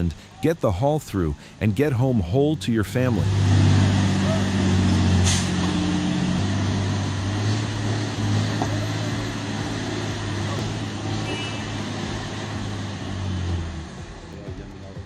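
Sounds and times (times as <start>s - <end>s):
road noise: 0.0s - 15.0s
truck engine droning: 0.0s - 15.0s.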